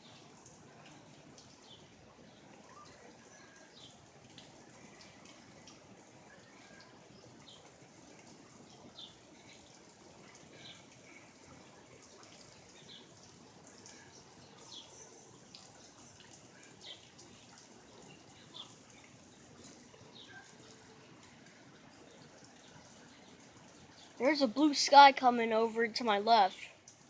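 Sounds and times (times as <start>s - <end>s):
water dripping: 0.0s - 27.0s.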